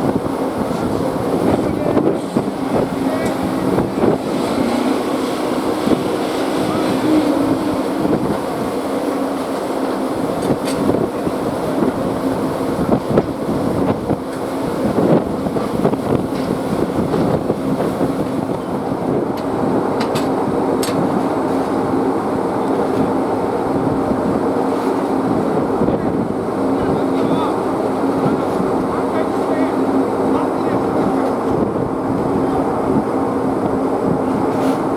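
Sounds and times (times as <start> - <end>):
engine running with clatter: 0.0 - 34.9.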